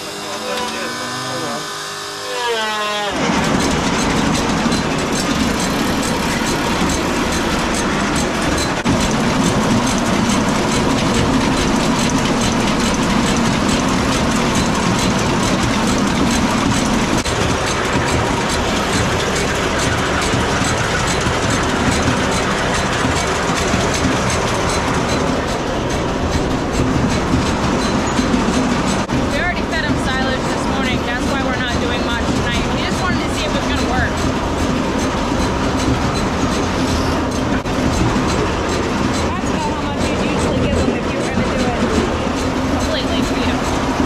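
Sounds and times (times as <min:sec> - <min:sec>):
motor droning: 0:00.0 - 0:36.8
feed cart clattering: 0:03.2 - 0:44.0.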